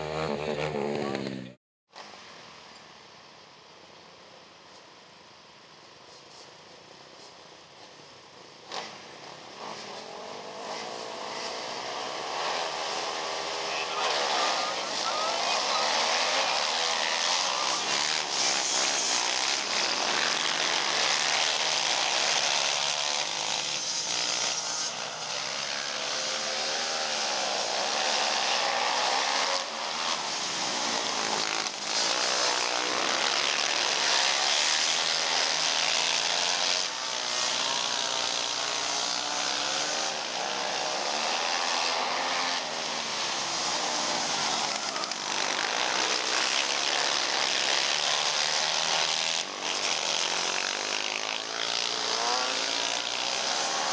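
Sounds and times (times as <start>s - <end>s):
racing quad engines revving: 0.0s - 1.6s, 8.6s - 53.9s.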